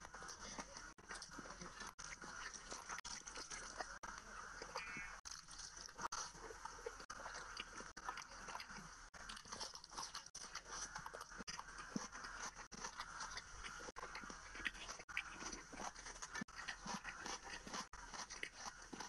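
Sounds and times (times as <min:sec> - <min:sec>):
close chewing with crunchy clicks: 0:00.0 - 0:19.0.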